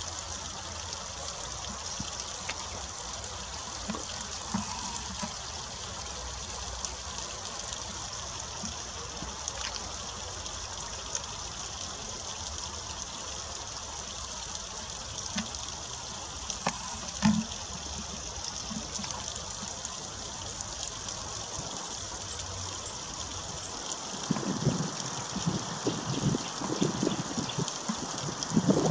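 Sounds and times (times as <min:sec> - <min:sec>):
water trickling down rock: 0:00.0 - 0:28.9.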